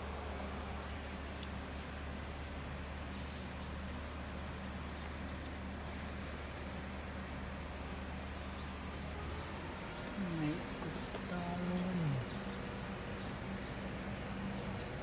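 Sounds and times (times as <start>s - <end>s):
motor tricycle engine idling: 0.0s - 15.0s.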